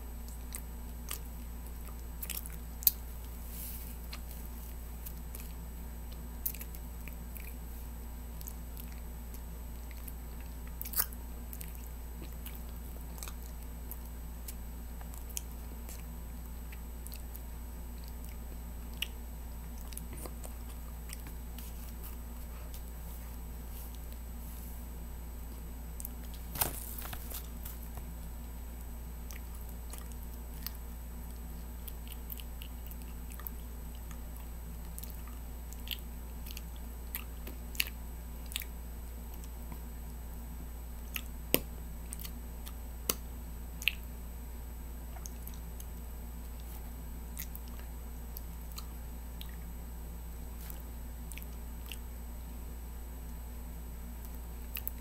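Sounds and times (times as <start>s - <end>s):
low electrical hum: 0.0s - 55.0s
person chewing with lip smacks: 0.2s - 7.7s, 8.3s - 24.7s, 28.8s - 44.2s, 45.0s - 49.8s, 50.5s - 52.2s, 54.2s - 55.0s.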